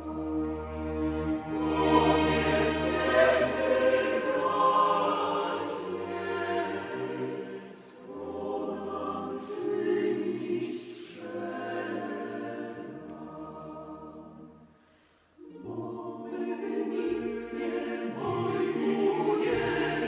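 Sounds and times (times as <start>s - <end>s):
choir singing held notes: 0.0s - 14.8s, 15.4s - 20.0s.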